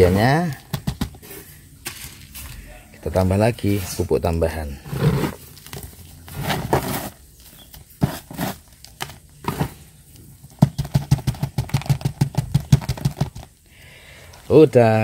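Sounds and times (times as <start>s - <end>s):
granules rustling in plastic pot: 0.0s - 15.0s.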